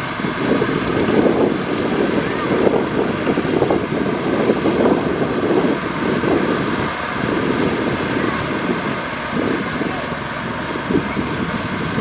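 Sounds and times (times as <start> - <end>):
tractor diesel engine running: 0.0 - 12.0
wind buffeting microphone: 0.0 - 12.0.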